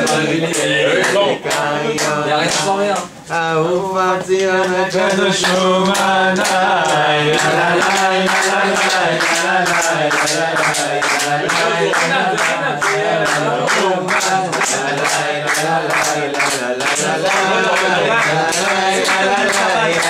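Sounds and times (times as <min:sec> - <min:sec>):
hand clapping: 0:00.0 - 0:03.1, 0:03.7 - 0:20.0
men singing together: 0:00.0 - 0:20.0.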